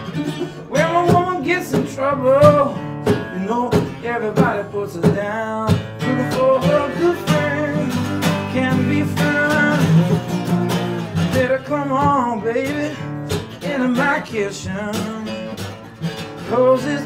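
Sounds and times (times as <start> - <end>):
slide acoustic guitar blues: 0.0 - 17.0.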